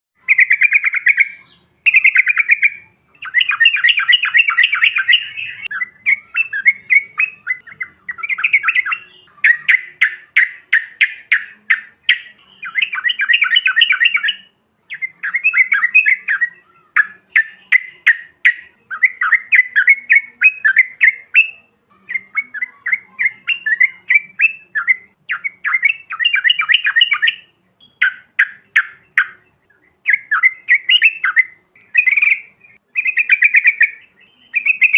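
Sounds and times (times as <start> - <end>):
bird chattering song: 0.2 - 34.9.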